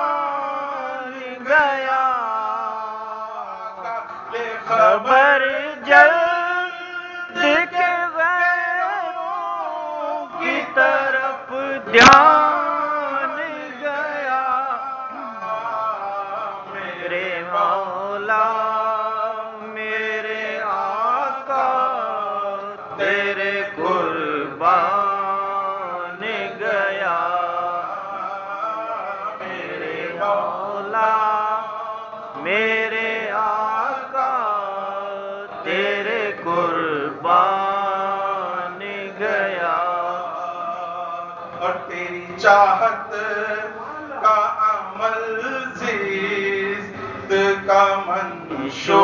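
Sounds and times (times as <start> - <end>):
man chanting: 0.0 - 49.0.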